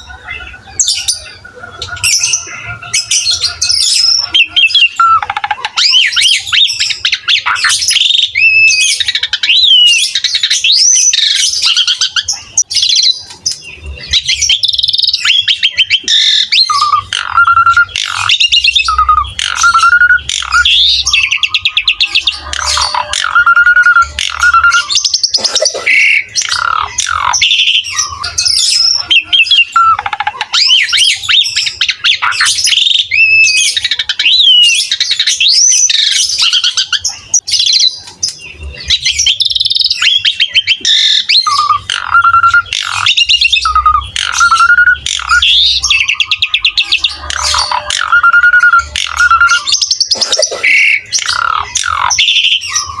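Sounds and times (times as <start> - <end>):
starling singing: 0.0 - 53.0.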